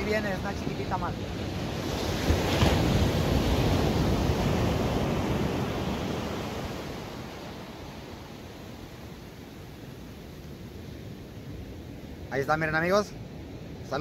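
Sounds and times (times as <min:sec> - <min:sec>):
surf breaking on a beach: 0:00.0 - 0:14.0.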